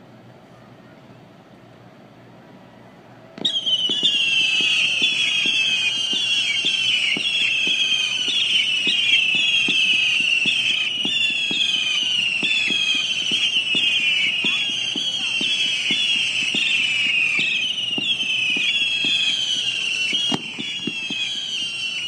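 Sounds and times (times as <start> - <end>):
firework pops: 3.4 - 22.0
whistling rockets: 3.4 - 22.0.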